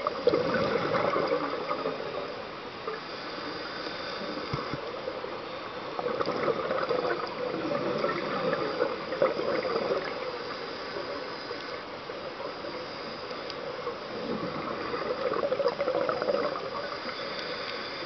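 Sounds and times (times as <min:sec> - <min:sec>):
underwater bubbling and gurgling: 0:00.0 - 0:18.0
faint clicks: 0:02.8 - 0:18.0.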